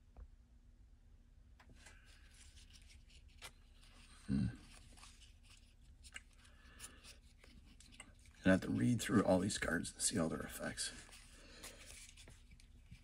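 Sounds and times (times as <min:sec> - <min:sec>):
trading cards rustling: 0:01.6 - 0:13.0.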